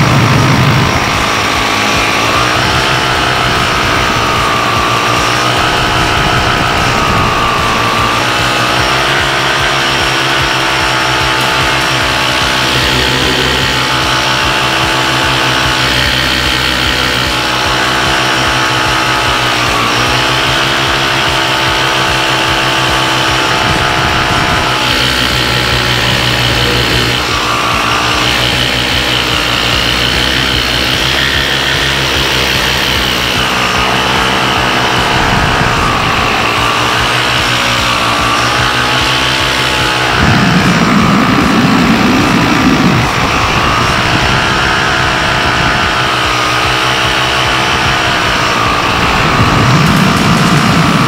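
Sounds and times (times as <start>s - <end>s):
paramotor engine and propeller: 0.0s - 51.0s.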